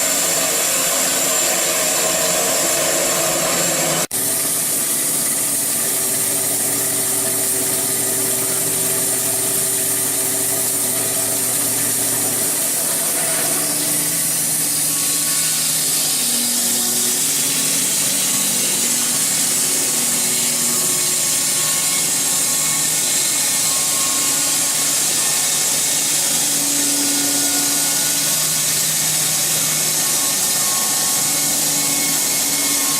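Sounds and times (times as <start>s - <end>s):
bandsaw mill sawing log: 0.0s - 32.9s.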